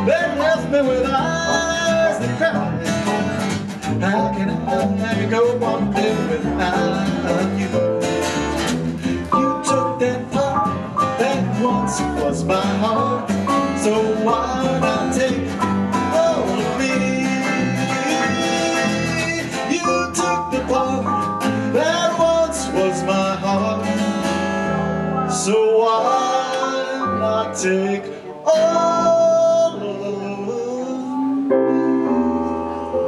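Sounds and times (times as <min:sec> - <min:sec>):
keyboard: 0:00.0 - 0:33.0
strummed acoustic guitar: 0:00.0 - 0:33.0
upright bass: 0:00.0 - 0:33.0.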